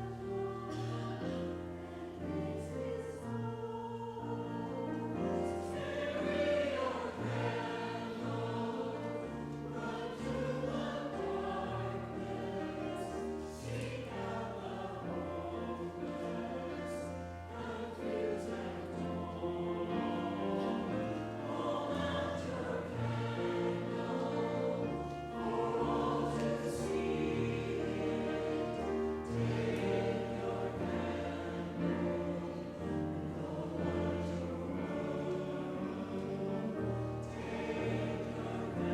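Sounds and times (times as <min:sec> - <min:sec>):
choir singing with accompaniment: 0:00.0 - 0:38.9.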